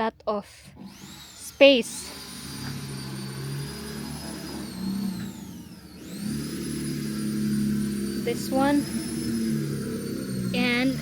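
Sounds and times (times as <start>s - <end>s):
machine high whine: 0.8s - 11.0s.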